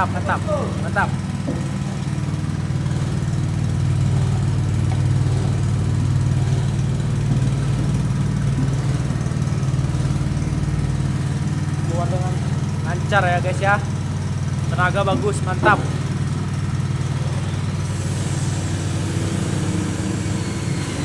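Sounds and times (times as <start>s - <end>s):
small petrol engine running: 0.0s - 21.0s.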